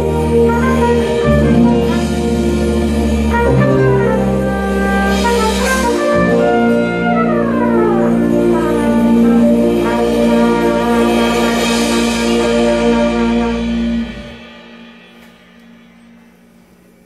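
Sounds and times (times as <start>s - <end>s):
trumpet playing: 0.0s - 17.0s.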